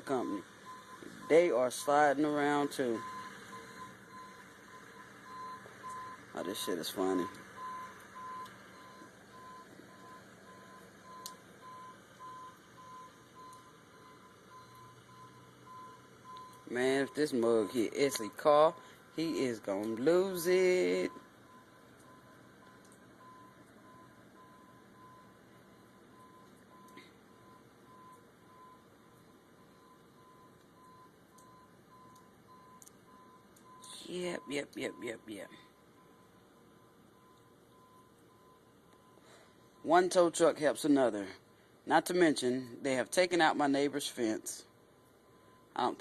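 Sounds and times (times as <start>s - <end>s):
reversing alarm beeping: 0.0s - 40.5s, 45.3s - 46.0s
low steady hum: 0.0s - 46.0s.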